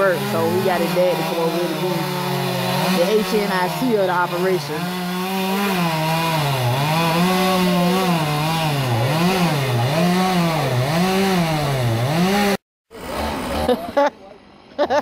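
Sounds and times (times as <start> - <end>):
chainsaw cutting logs: 0.0 - 14.6.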